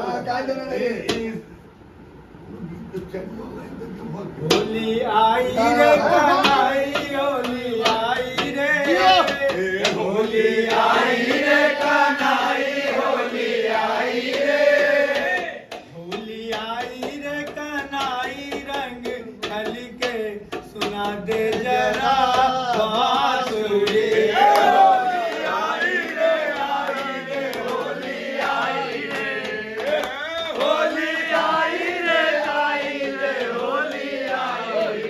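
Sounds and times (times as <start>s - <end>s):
men singing folk song in chorus: 4.6s - 35.0s.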